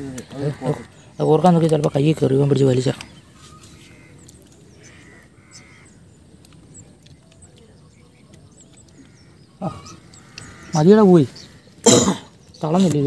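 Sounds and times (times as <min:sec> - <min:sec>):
distant birds chirping: 0:00.0 - 0:13.0
harsh bird calls: 0:00.0 - 0:13.0.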